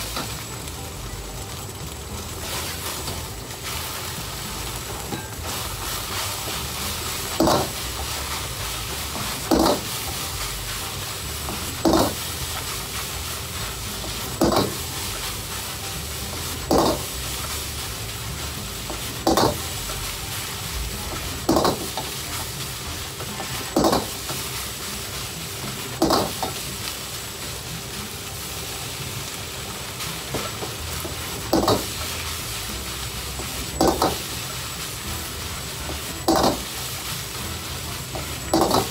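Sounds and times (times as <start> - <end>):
rice sizzling in a wok: 0.0 - 38.9.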